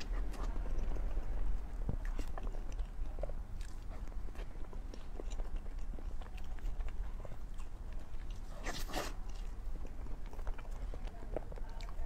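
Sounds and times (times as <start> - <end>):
chewing and wet mouth clicks: 0.0 - 12.0.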